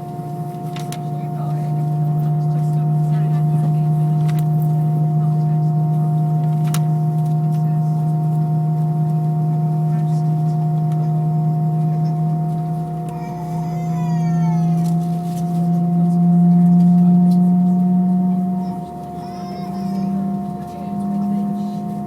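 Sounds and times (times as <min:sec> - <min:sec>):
airplane cabin engine drone: 0:00.0 - 0:22.0.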